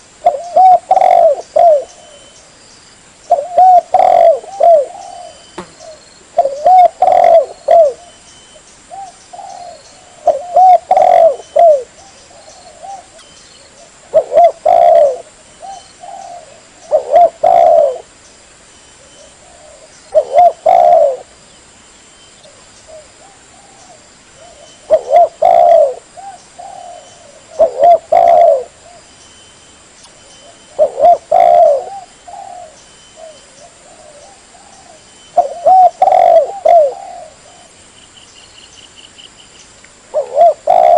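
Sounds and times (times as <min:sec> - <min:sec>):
dove cooing: 0:00.0 - 0:02.4, 0:03.3 - 0:08.2, 0:08.9 - 0:18.1, 0:19.0 - 0:21.4, 0:22.5 - 0:29.1, 0:30.4 - 0:37.8, 0:40.1 - 0:40.9.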